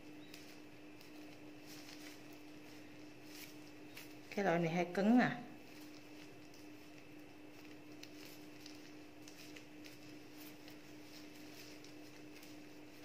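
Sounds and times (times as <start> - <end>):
plastic gloves crinkling: 0.0 - 13.0
steady low hum: 0.0 - 13.0.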